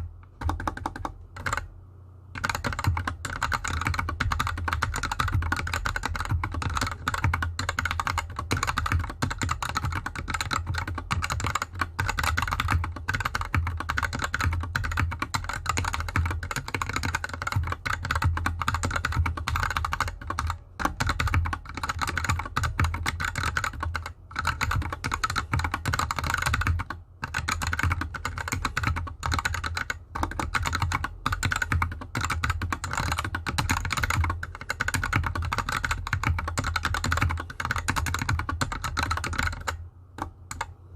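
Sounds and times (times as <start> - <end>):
mechanical keyboard typing: 0.0 - 1.7, 2.3 - 40.8.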